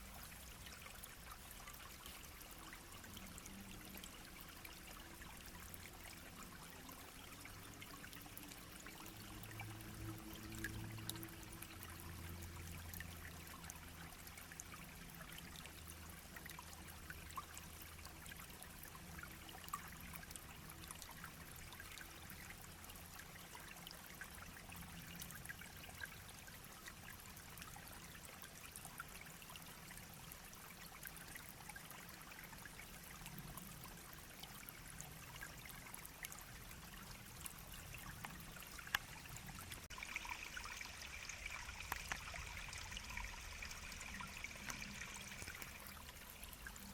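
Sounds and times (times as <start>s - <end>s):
stream babbling over stones: 0.0s - 46.9s.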